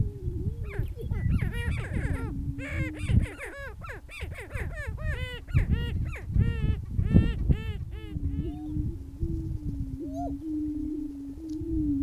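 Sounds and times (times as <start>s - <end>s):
birds cackling and whooping: 0.6s - 11.2s.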